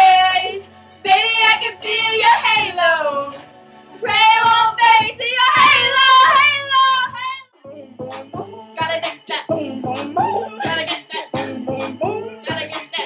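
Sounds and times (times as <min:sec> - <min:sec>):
girls singing: 0:00.0 - 0:03.4, 0:04.0 - 0:07.4, 0:08.1 - 0:13.0.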